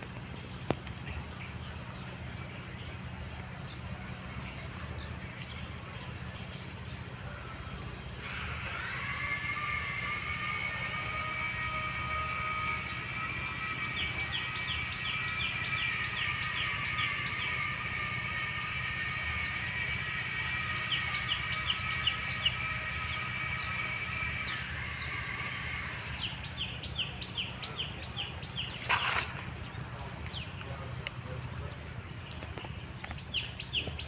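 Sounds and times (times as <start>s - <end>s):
high-pitched whine: 0.0s - 31.6s.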